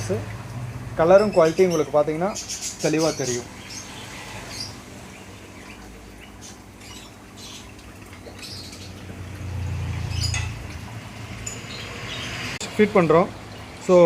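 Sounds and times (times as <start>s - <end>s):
small birds chirping: 1.0s - 14.0s.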